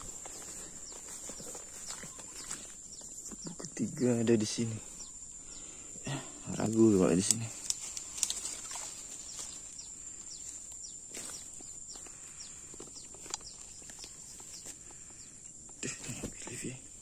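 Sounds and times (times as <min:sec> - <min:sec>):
bird chirping: 0:00.0 - 0:17.0
faint vegetation clicks: 0:00.0 - 0:17.0.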